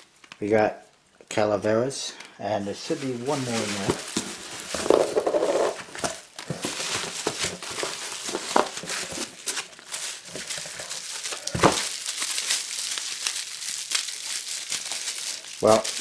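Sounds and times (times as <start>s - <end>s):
bubble wrap crinkling: 2.6s - 16.0s.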